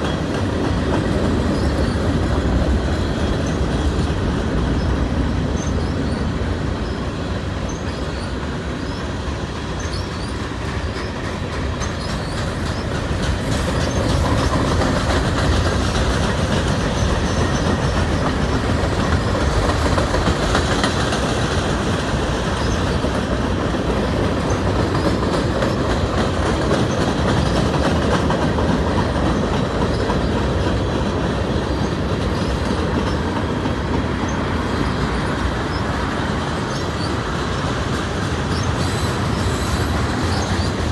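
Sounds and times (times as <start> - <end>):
freight train rumbling past: 0.0 - 40.9
wheels clattering over rail joints: 0.0 - 40.9
wheels squealing: 1.3 - 9.2, 9.8 - 40.9.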